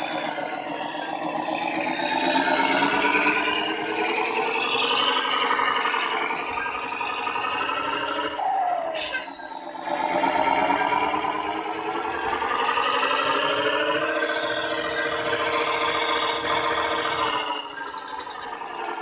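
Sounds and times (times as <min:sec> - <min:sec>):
toy truck motor whining and rattling: 0:00.0 - 0:19.0.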